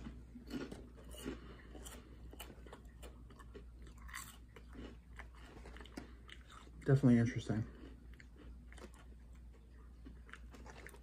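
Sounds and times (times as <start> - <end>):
chip crunching: 0.0 - 11.0.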